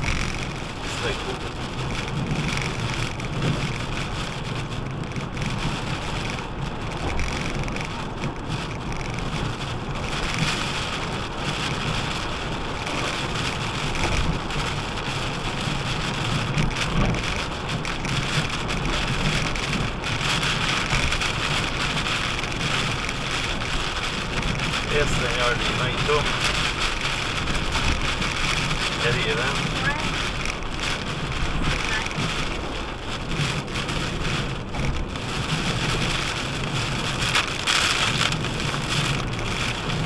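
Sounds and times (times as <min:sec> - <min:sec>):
rain on a car: 0:00.0 - 0:40.0
tyres hissing on wet road: 0:00.0 - 0:40.0.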